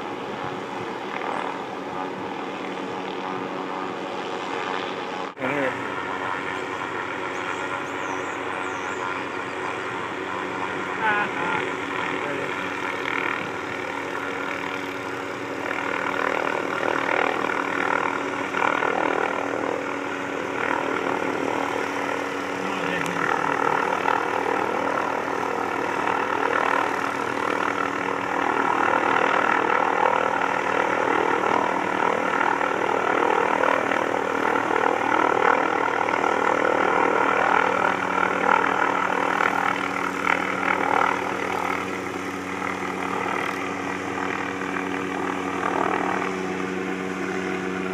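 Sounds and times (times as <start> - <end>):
helicopter rotor drone: 0.0 - 47.9.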